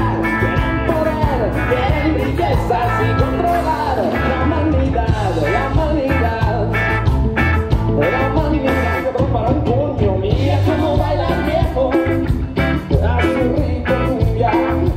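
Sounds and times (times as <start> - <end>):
drums: 0.0 - 14.9
electric bass: 0.0 - 14.9
electric guitars: 0.0 - 14.9
keyboard: 0.0 - 14.9
man singing lead vocal: 0.0 - 14.9.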